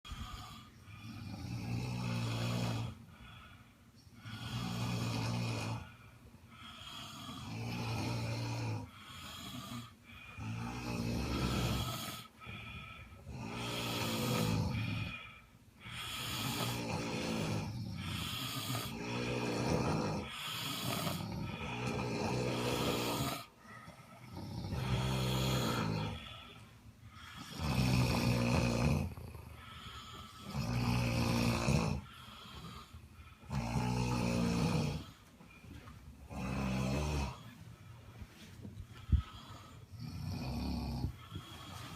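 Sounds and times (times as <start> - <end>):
person snoring: 0.1 - 3.6, 4.2 - 35.2, 36.2 - 37.5, 39.0 - 41.9.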